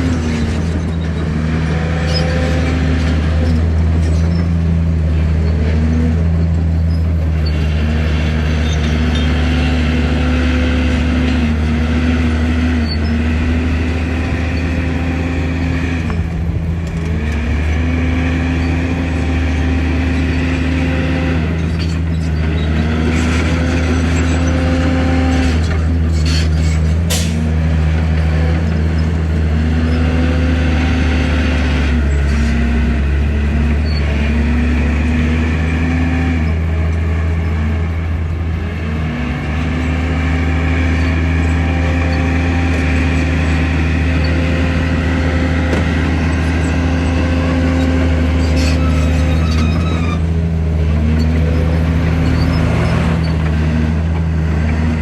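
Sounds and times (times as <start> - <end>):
diesel machinery running under load: 0.0 - 55.0.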